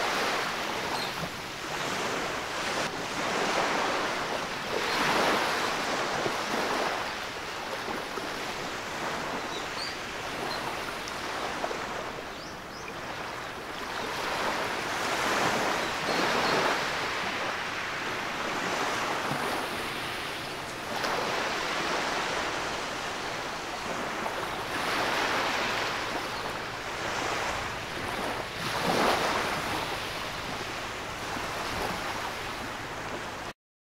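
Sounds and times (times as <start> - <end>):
small waves breaking on sand: 0.0 - 33.5.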